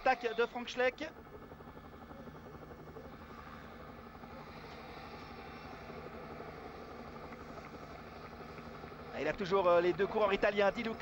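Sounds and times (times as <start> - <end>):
faint engine drone: 0.0 - 11.0.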